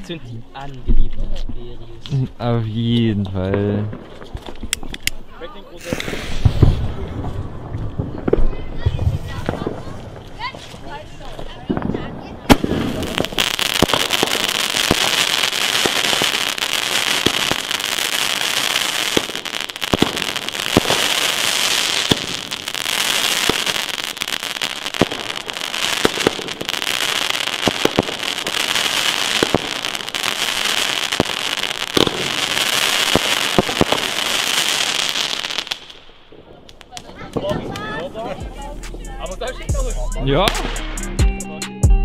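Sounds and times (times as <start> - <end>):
firework battery crackling: 1.1 - 41.1.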